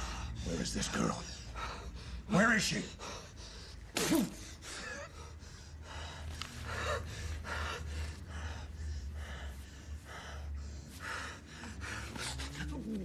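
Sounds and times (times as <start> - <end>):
man breathing hard: 0.0 - 2.3, 2.9 - 13.0
low steady hum: 0.0 - 13.0.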